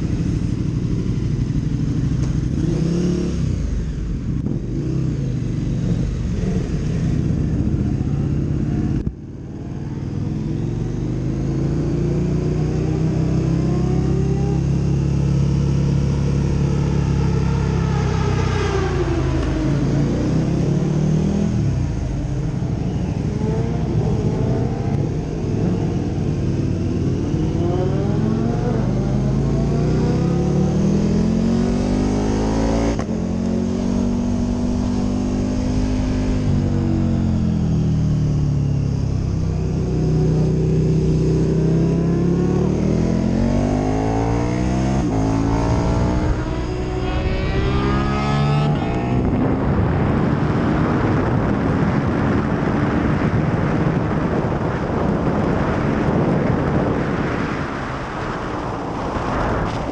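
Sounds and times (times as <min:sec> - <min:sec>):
motorcycle engine accelerating: 0:00.0 - 0:59.9
wind noise on microphone: 0:00.0 - 0:59.9.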